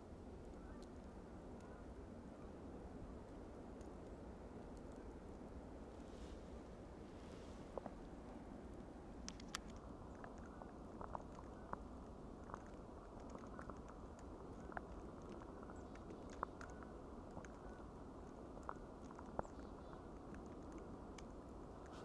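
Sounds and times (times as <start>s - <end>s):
steady low hiss: 0.0s - 22.0s
soft ticks: 0.1s - 2.0s, 3.2s - 5.7s, 7.7s - 8.1s, 8.7s - 22.0s.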